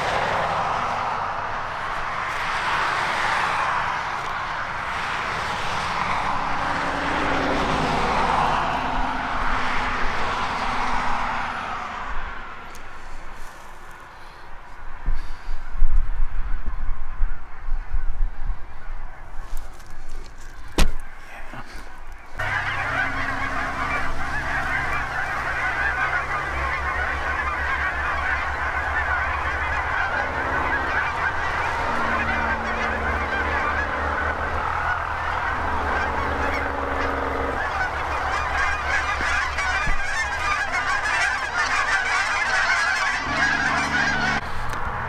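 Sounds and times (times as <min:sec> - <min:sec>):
geese honking: 0:00.0 - 0:14.4, 0:18.7 - 0:44.8.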